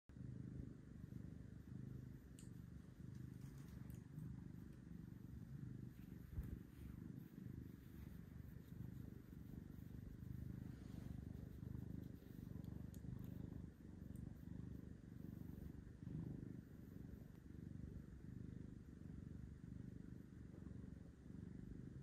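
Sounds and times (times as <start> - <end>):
cat purring: 0.1 - 22.0.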